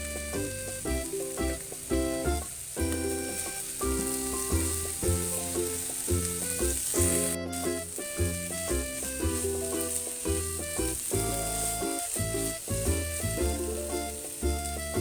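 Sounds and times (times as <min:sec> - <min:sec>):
background music: 0:00.0 - 0:15.0
food sizzling in frying oil: 0:00.0 - 0:15.0.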